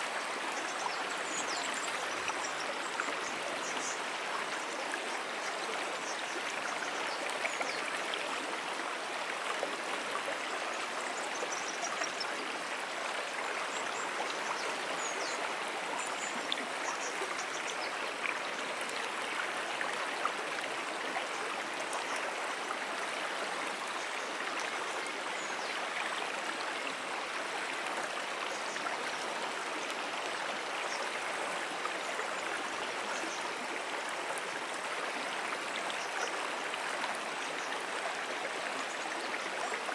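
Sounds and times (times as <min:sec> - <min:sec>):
stream rushing over streambed: 0:00.0 - 0:39.9.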